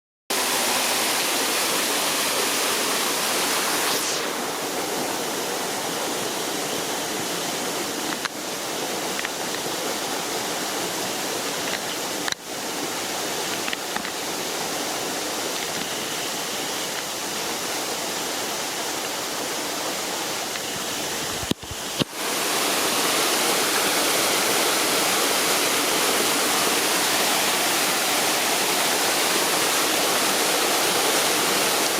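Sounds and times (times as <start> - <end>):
water pouring steadily: 0.3 - 31.9.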